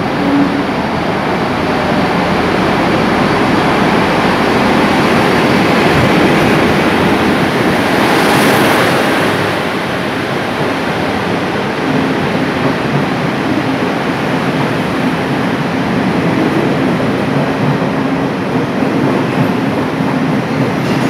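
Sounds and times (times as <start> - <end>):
diesel locomotive and wheels rumbling: 0.0 - 21.0.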